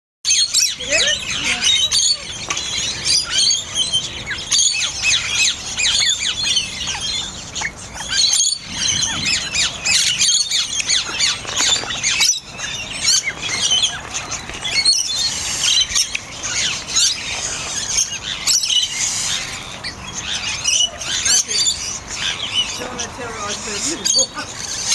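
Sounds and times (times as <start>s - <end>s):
birds chirping and squawking: 0.3s - 24.9s.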